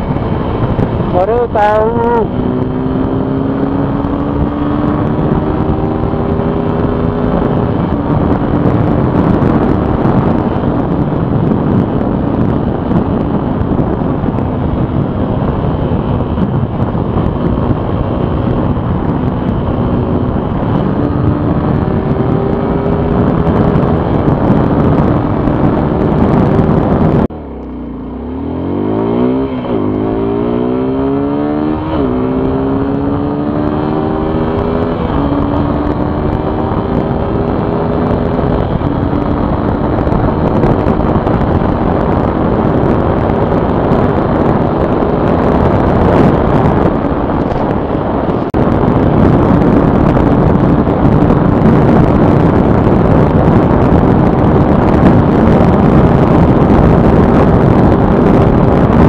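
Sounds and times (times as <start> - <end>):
motorcycle engine accelerating: 0.0 - 59.0
wind rush on microphone: 0.0 - 59.0.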